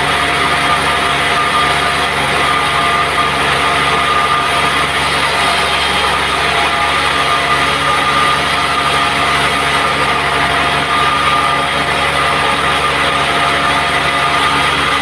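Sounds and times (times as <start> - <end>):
band saw machine drone: 0.0 - 15.0
high saw whine: 0.0 - 15.0.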